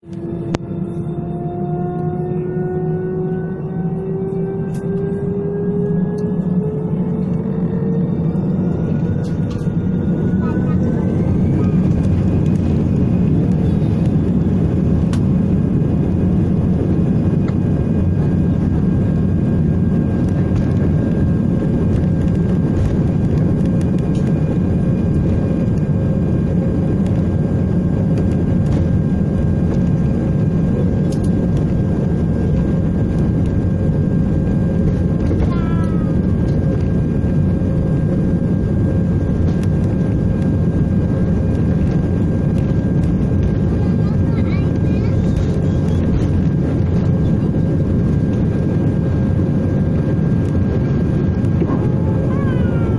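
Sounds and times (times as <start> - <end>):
airliner cabin rumble: 0.0 - 52.9.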